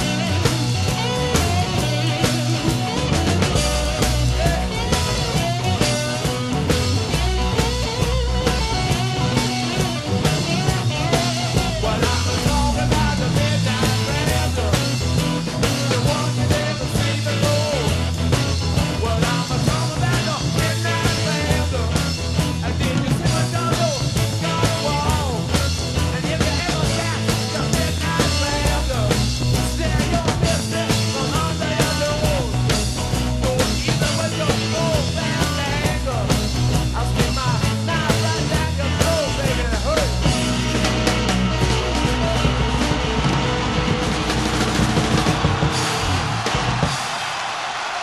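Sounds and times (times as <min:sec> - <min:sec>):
driving bass line: 0:00.0 - 0:47.6
rock music: 0:00.0 - 0:48.0
steady drum beat: 0:00.0 - 0:48.0.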